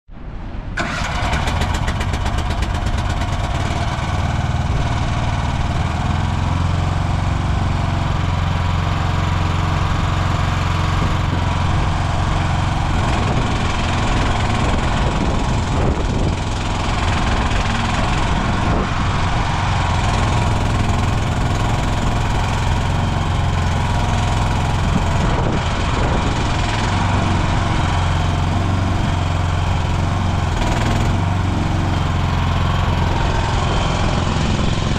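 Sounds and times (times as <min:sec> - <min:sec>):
excavator engine running: 0:00.8 - 0:34.9.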